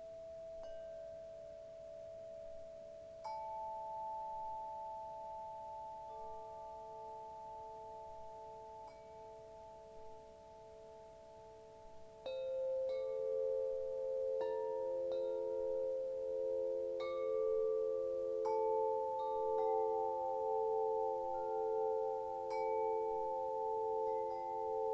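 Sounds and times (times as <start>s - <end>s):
wind chimes ringing: 0.0s - 24.9s.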